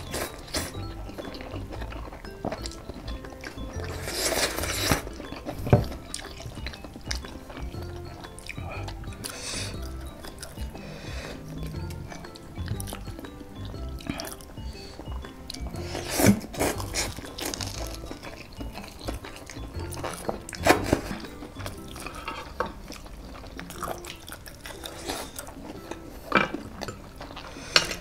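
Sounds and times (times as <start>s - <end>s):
faint background music: 0.0s - 28.0s
noodles being slurped: 0.0s - 28.0s.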